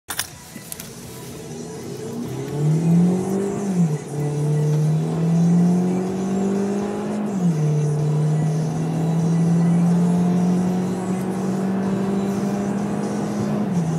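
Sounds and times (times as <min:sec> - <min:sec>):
car engine accelerating hard: 0:01.3 - 0:13.9.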